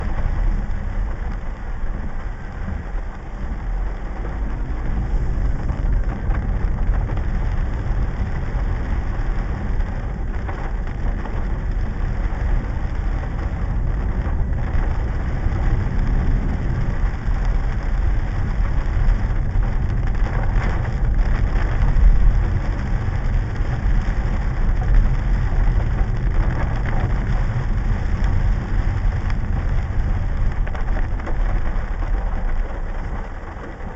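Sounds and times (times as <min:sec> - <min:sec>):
car engines in traffic: 0:00.0 - 0:33.9
heavy rain hiss: 0:00.0 - 0:33.9.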